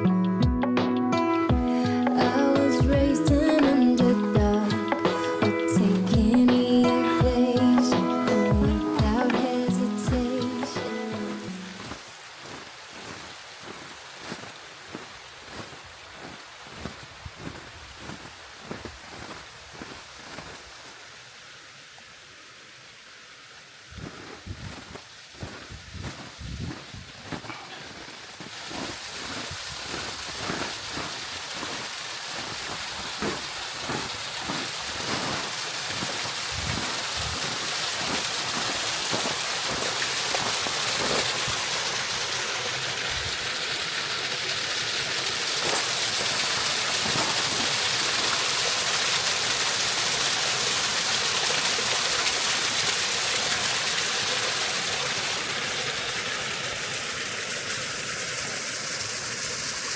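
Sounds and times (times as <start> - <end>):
stream water rushing: 1.2 - 59.9.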